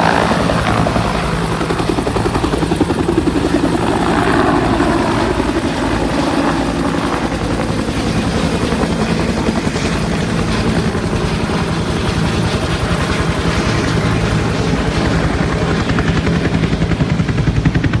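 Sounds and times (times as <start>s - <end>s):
helicopter rotor beat: 0.0s - 18.0s
helicopter turbine drone: 0.0s - 18.0s.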